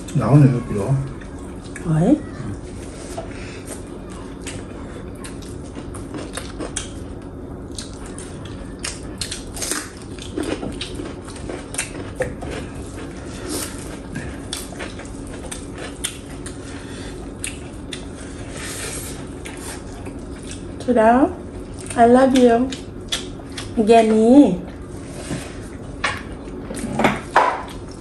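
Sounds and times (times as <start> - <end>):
crunchy chewing: 1.0 - 23.8.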